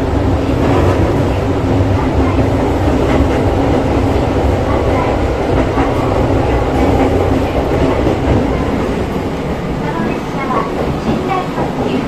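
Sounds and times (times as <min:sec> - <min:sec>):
train interior rumble: 0:00.0 - 0:12.0
faint voices: 0:00.3 - 0:12.0.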